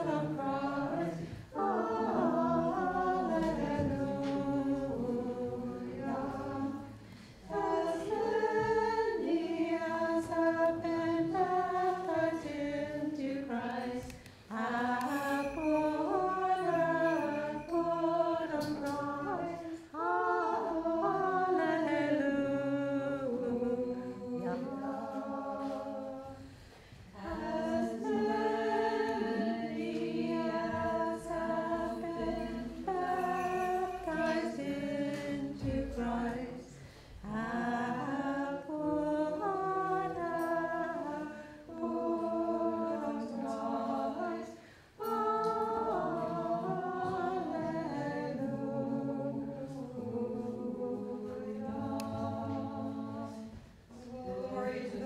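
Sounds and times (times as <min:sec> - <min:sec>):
choir singing a cappella hymn: 0:00.0 - 0:55.0.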